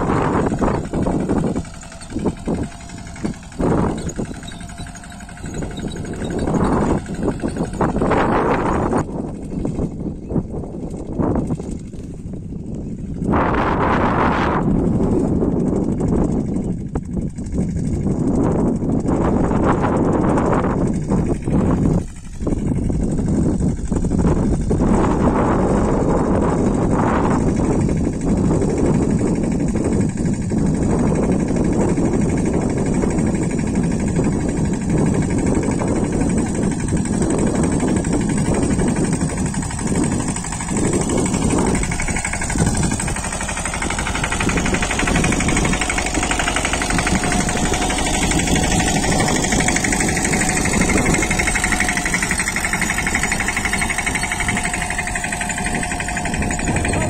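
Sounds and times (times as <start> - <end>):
tractor engine running under load: 0.0 - 57.0.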